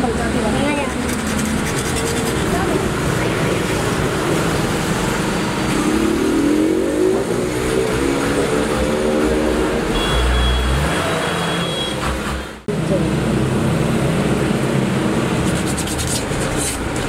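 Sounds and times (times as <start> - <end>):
street noise: 0.0 - 17.0
vehicle engine revving: 1.1 - 17.0.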